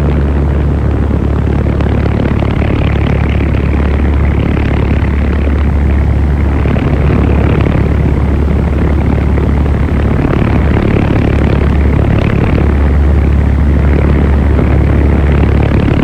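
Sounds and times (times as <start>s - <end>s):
wind rushing with deep rumble: 0.0s - 16.0s.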